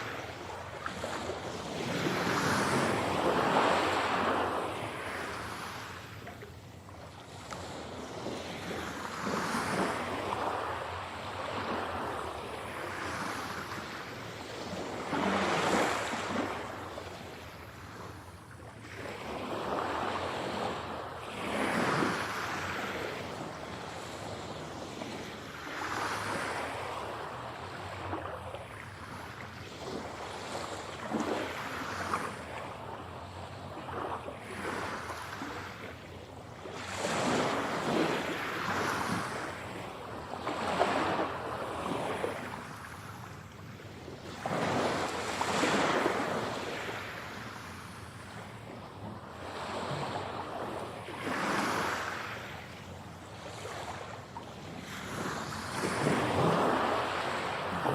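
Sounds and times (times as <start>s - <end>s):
sea waves breaking: 0.0s - 57.9s.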